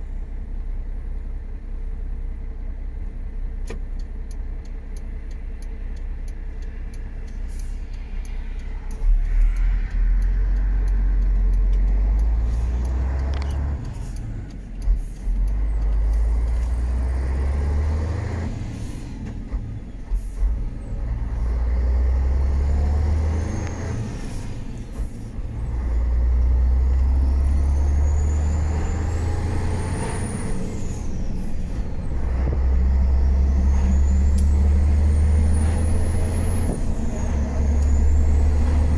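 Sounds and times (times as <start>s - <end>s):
truck diesel engine accelerating: 0.0s - 38.9s.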